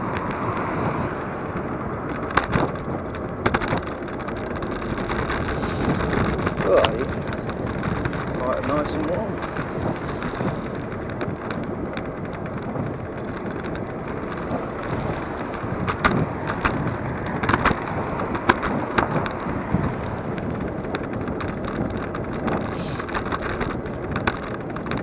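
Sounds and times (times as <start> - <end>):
sharp knocks and rattles: 0.0 - 25.0
small wheels rumbling on tarmac: 0.0 - 25.0
wind buffeting microphone: 0.0 - 25.0.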